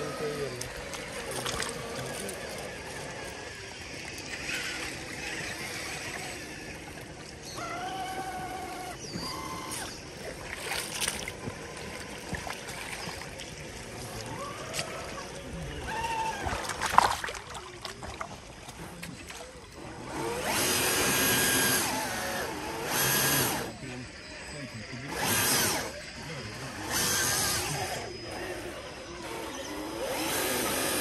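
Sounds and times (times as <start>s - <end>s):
faint voices: 0.0s - 10.4s, 11.3s - 21.2s, 21.8s - 31.0s
electric motor and gearbox whining: 0.0s - 17.0s, 18.3s - 31.0s.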